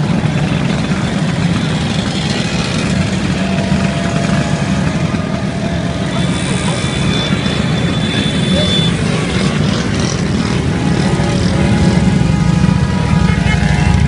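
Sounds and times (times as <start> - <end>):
many scooter engines droning: 0.0 - 14.0.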